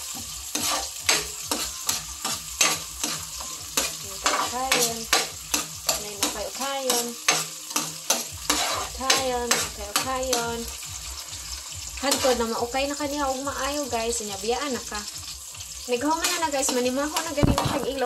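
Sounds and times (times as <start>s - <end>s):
food sizzling in hot oil: 0.0s - 18.0s
metal ladle scraping a wok: 0.1s - 12.7s, 16.1s - 18.0s.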